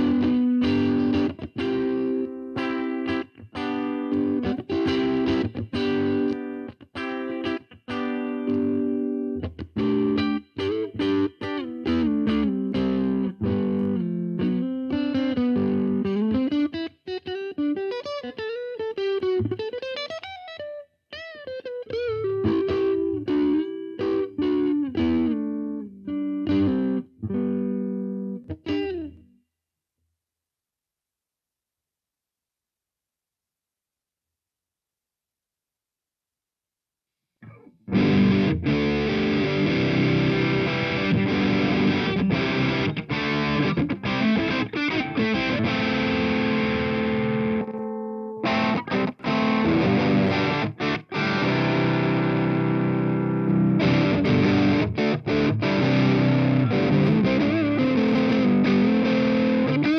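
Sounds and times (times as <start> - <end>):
electric guitar playing: 0.0 - 29.3, 37.4 - 59.9.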